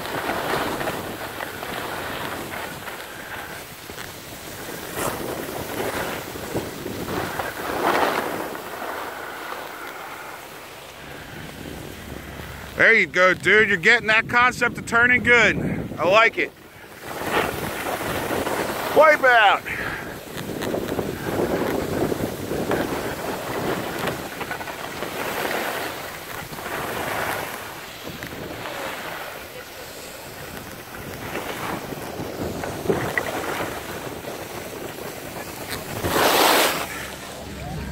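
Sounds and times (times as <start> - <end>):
wind buffeting microphone: 0.0 - 9.0, 11.1 - 28.7, 29.7 - 36.2
skis scraping over snow: 0.0 - 37.9.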